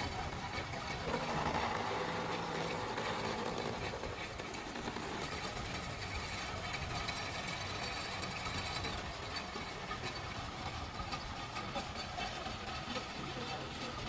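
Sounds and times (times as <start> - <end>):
coolant pouring: 0.0 - 14.0
metal-cutting machine clattering: 0.0 - 14.0.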